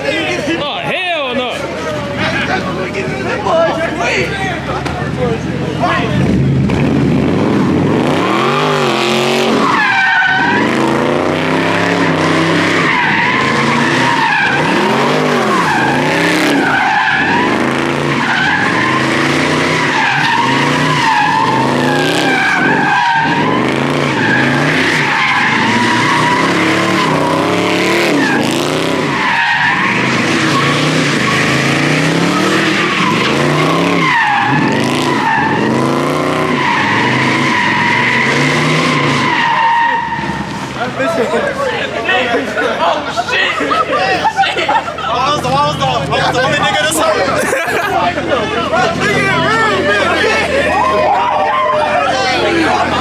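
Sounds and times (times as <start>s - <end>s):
car engine revving: 0.0s - 42.6s, 44.7s - 53.0s
tires squealing on pavement: 0.0s - 53.0s.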